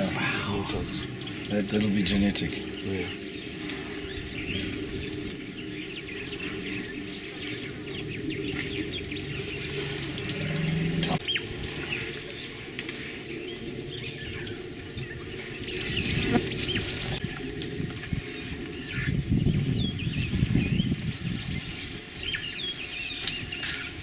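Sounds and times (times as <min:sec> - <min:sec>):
steady low hum: 0:00.0 - 0:24.0
wild birds chirping: 0:00.0 - 0:24.0.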